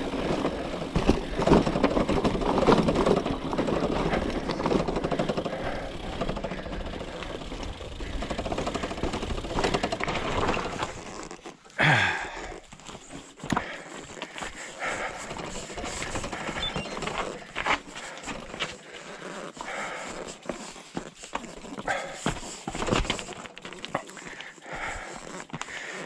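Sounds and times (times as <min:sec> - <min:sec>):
mountain bike rattling downhill: 0:00.0 - 0:26.0.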